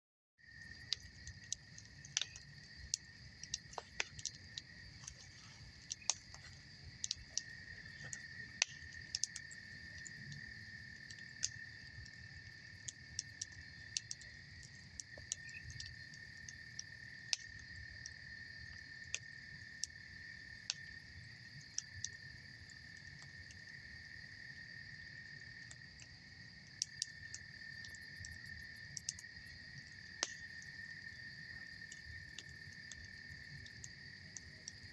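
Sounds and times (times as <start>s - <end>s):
campfire crackling and popping: 0.4s - 34.9s
insects trilling: 0.4s - 34.9s.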